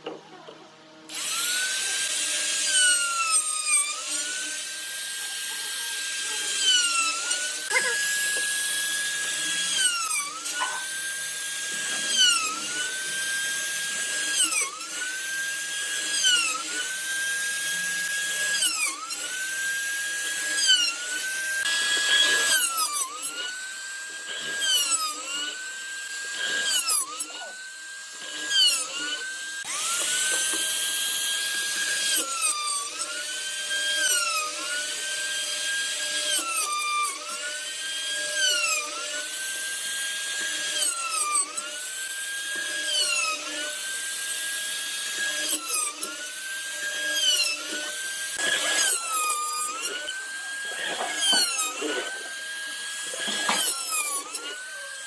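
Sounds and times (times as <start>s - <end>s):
power tool whining cutting wood: 0.0s - 55.0s.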